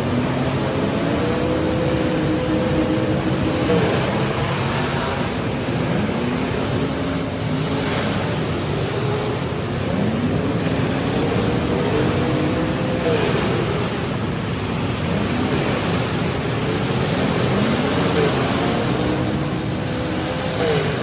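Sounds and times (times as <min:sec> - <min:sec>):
car engines revving: 0:00.0 - 0:21.0
steady wash of noise: 0:00.0 - 0:21.0.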